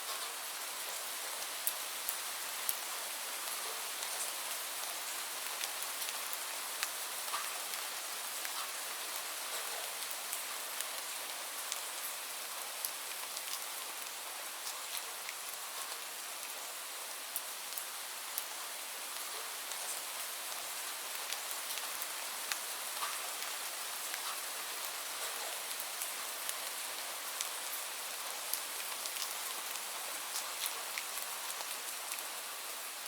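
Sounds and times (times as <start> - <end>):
steady rain hiss: 0.0 - 33.0
raindrops ticking on a surface: 0.1 - 33.0.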